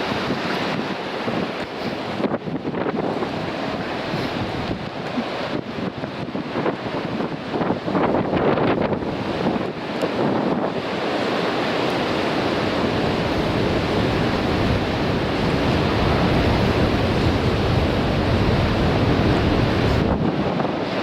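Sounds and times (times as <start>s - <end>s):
surf breaking over rocks: 0.0s - 21.0s
wind buffeting microphone: 0.0s - 21.0s.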